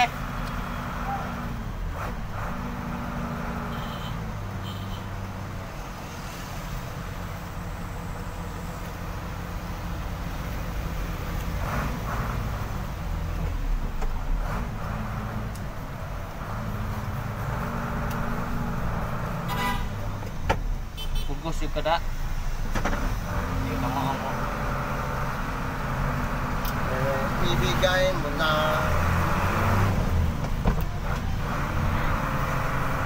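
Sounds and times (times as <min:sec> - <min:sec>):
traffic passing: 0:00.0 - 0:33.0.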